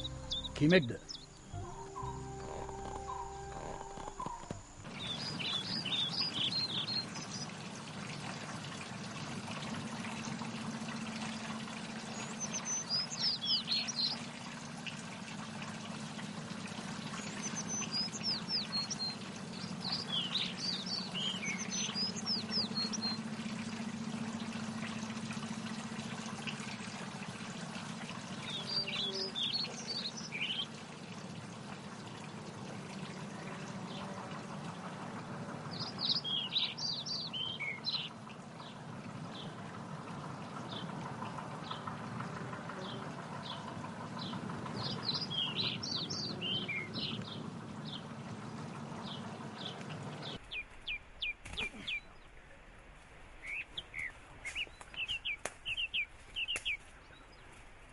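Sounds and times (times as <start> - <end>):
birds chirping: 0.0 - 52.4, 53.3 - 57.9
running water: 0.0 - 57.9.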